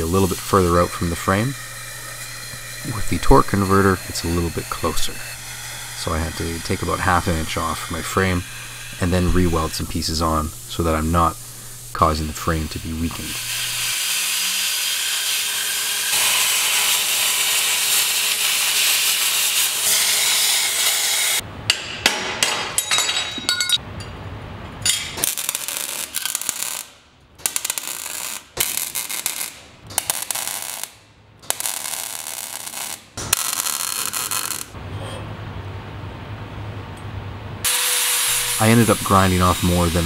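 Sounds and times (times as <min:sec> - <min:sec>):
welder crackling hiss: 0:00.0 - 0:21.4, 0:25.2 - 0:34.8, 0:37.6 - 0:40.0.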